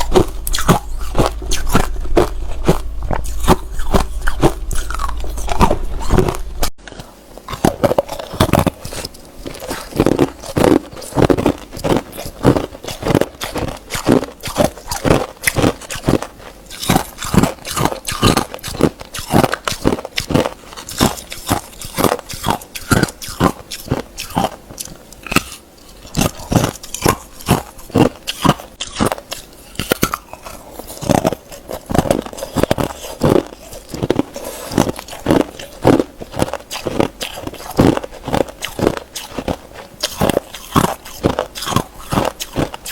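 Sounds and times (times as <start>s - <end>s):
ice being chewed crunching: 0.0s - 42.9s.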